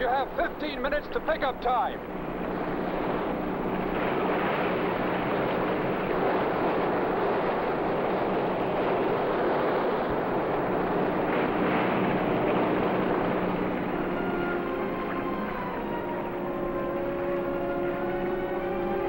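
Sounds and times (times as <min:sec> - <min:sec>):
boat engine humming: 0:00.0 - 0:19.0
rushing water: 0:00.0 - 0:19.0
wind: 0:00.0 - 0:19.0.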